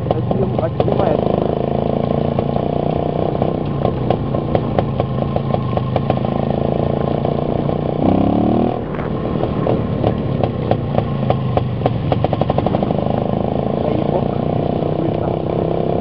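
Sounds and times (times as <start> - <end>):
two-stroke motorcycle engine: 0.0 - 16.0.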